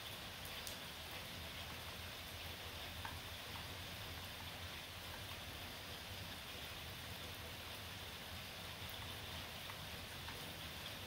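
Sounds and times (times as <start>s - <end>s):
light rain patter: 0.0s - 11.0s.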